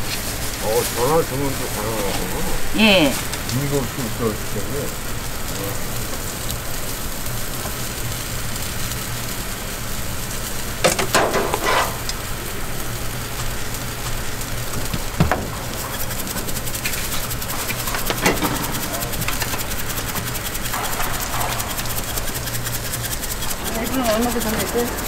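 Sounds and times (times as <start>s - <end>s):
food sizzling on griddle: 0.0s - 25.0s.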